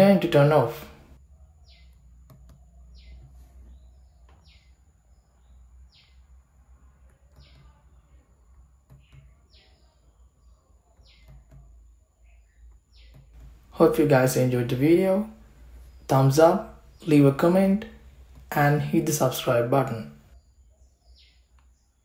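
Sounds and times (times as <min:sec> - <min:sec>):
bird chirping faintly: 0:00.0 - 0:22.0.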